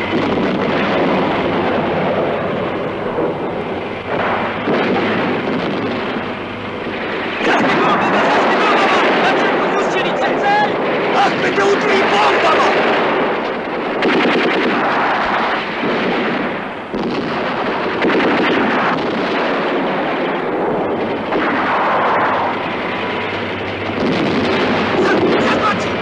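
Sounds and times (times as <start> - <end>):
shell blasts: 0.0 - 9.6, 12.6 - 26.0
rifle and machine-gun fire: 0.0 - 26.0.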